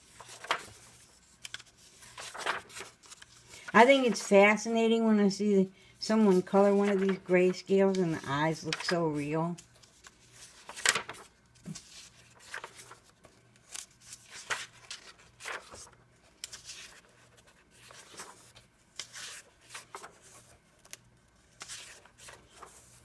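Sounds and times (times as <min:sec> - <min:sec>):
book pages turning: 0:00.0 - 0:04.4, 0:06.2 - 0:23.0.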